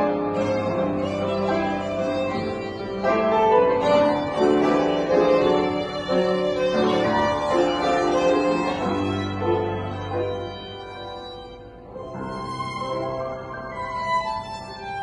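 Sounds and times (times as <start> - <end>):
piano accompaniment: 0.0 - 15.0
violin melody: 0.0 - 15.0.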